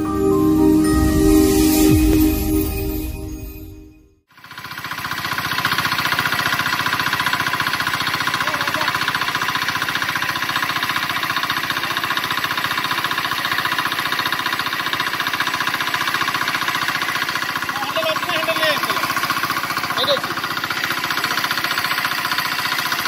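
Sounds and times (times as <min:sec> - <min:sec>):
diesel engine running: 0:04.4 - 0:23.0.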